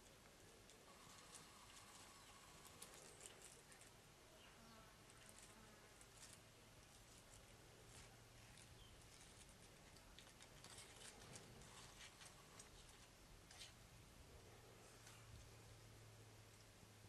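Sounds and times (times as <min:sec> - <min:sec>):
faint ticks and rustles: 0:00.0 - 0:16.8
faint low steady hum: 0:00.0 - 0:17.0.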